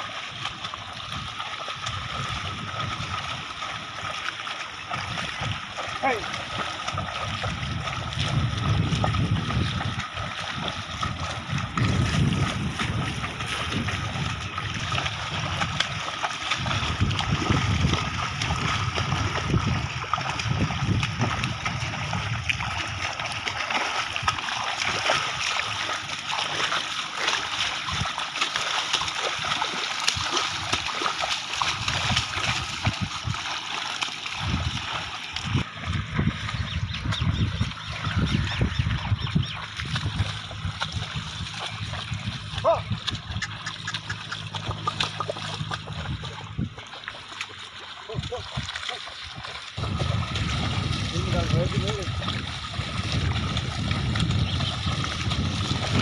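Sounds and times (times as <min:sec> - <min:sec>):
hooves splashing through water: 0:00.0 - 0:56.0.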